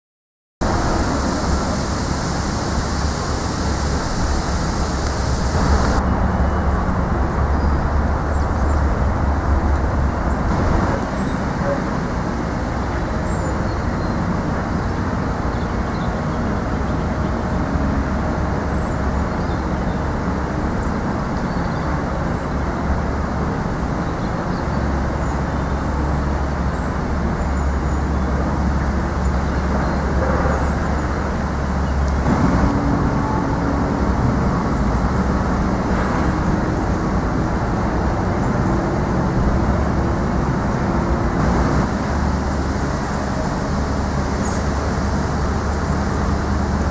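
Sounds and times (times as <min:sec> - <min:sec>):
low rumbling noise: 0:00.6 - 0:46.9.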